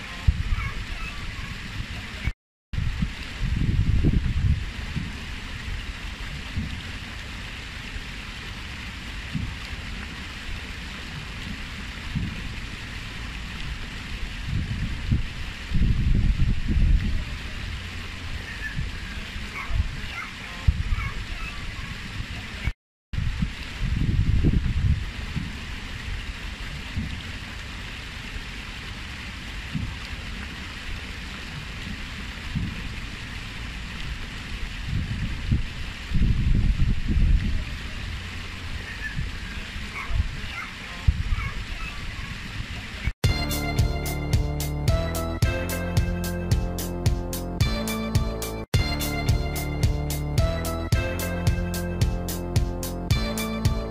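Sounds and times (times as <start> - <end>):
fountain water splashing down steps: 0.0 - 43.5.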